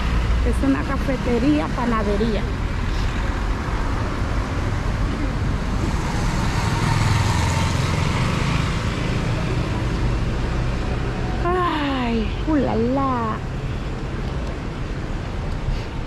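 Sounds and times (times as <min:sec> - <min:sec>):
motorcycles passing: 0:00.0 - 0:15.3
cars passing: 0:00.0 - 0:16.0.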